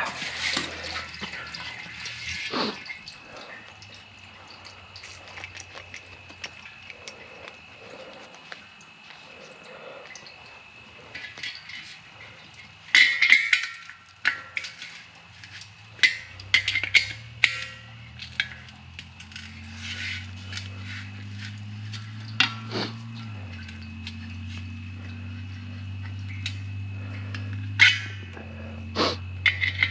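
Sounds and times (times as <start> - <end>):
low steady hum: 0.0 - 29.9
scrap metal clinking and clanking: 0.0 - 29.9.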